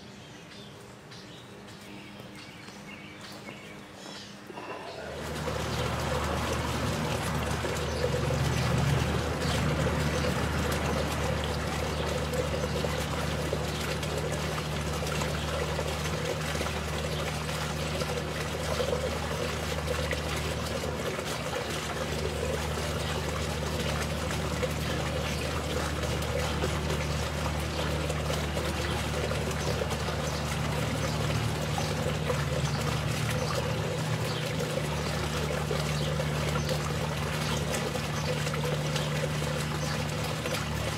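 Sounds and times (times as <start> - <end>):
low steady hum: 0.0 - 40.9
fountain splashing and trickling: 4.6 - 40.9.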